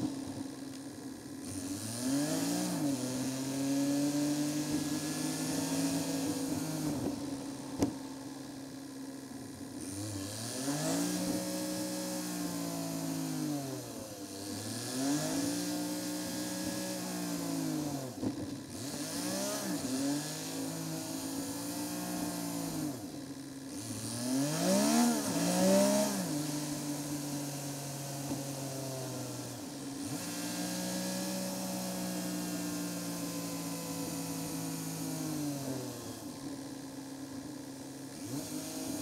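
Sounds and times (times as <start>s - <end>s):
car engine revving: 0.0s - 8.6s, 9.3s - 23.1s, 23.7s - 36.4s, 38.1s - 39.0s.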